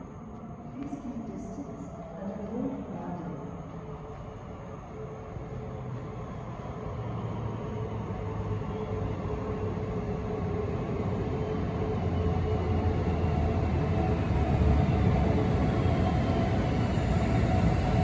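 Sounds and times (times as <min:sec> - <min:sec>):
electric train rumble: 0:00.0 - 0:18.0.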